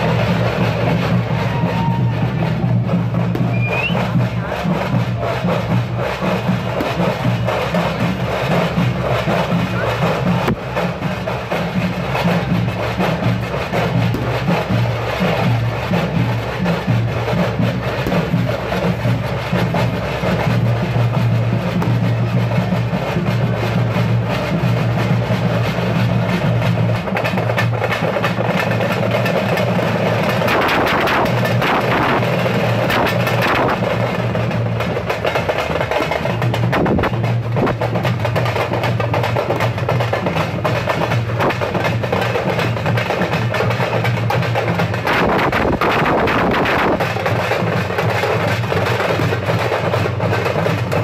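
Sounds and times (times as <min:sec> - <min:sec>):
loud drumming: 0:00.0 - 0:51.0
wood block percussion: 0:00.0 - 0:51.0.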